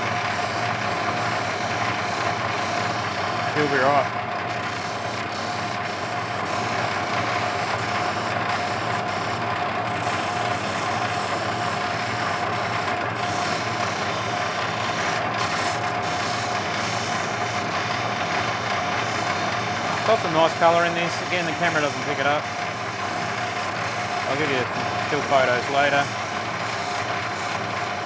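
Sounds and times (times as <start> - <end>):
grinding machine whine: 0.0 - 28.0.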